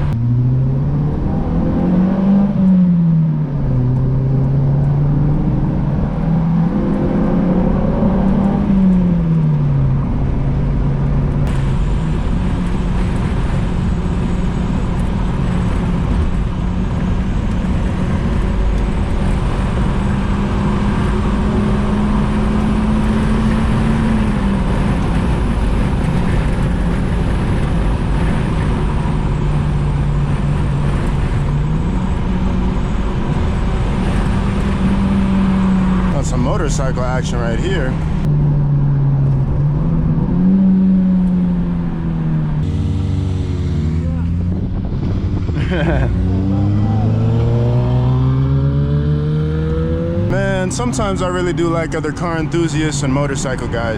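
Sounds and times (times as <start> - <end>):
road noise: 0.0 - 53.9
car engine running: 2.7 - 48.4, 49.3 - 53.9.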